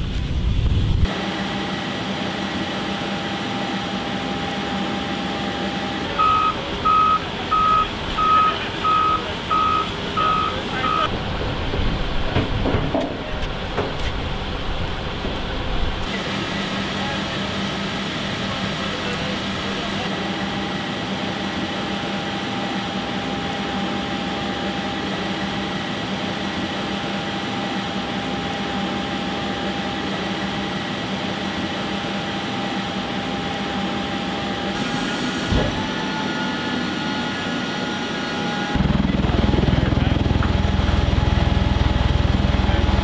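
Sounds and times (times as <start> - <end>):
aircraft turbine drone: 0.0 - 43.0.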